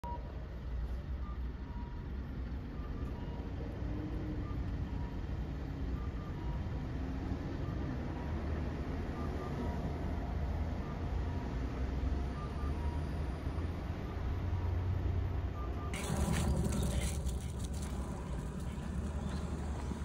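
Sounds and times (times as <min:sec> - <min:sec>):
crossing signal beeps: 0:00.0 - 0:14.3, 0:15.5 - 0:17.9.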